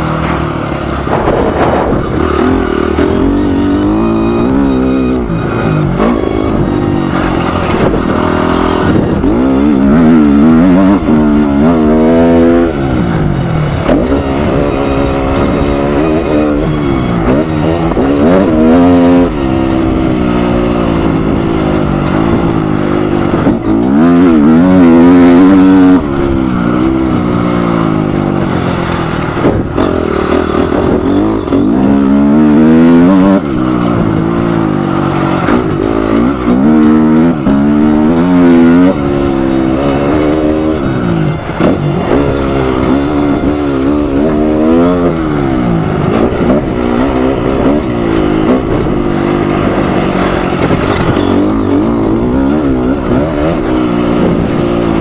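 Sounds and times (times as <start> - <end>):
motorcycle engine revving hard: 0.0 - 55.0.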